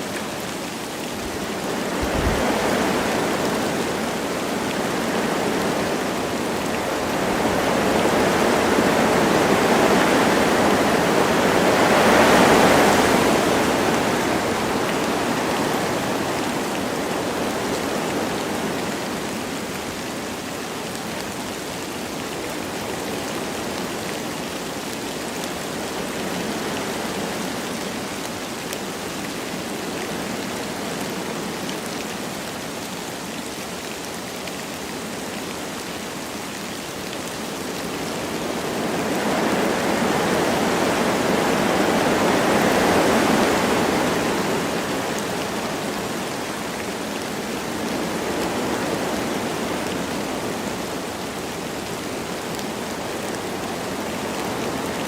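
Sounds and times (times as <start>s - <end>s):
light rain: 0.0s - 55.0s
wind through trees: 0.0s - 55.0s.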